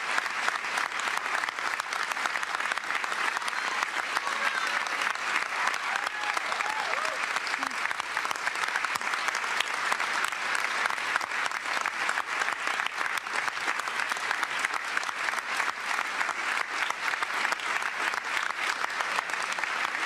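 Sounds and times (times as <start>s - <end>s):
large audience applauding: 0.0s - 20.0s.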